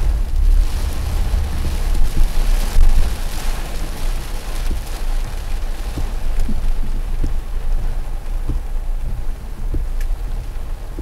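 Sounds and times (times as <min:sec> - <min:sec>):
heavy rain on car: 0:00.0 - 0:11.0
low rumble: 0:00.0 - 0:11.0
raindrop ticks: 0:00.0 - 0:11.0.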